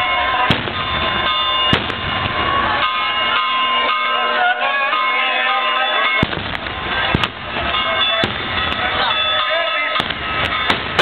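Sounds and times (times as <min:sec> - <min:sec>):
firecrackers banging: 0:00.0 - 0:04.2, 0:05.8 - 0:11.0.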